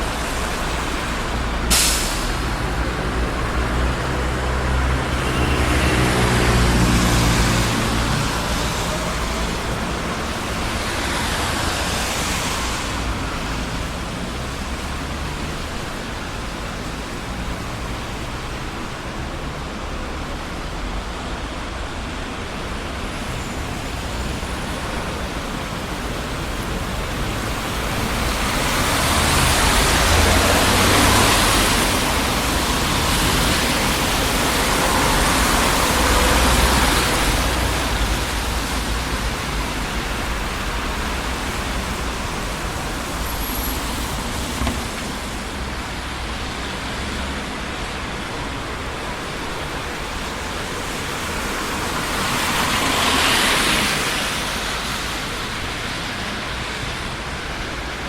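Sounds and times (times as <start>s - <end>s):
city traffic roar: 0.0s - 58.0s
heavy vehicle engine rumbling: 0.0s - 58.0s
vehicles passing: 0.0s - 58.0s.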